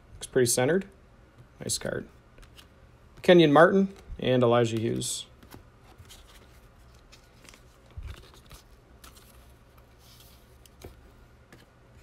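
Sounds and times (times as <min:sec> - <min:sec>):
light rustling of cards: 0:01.4 - 0:12.0.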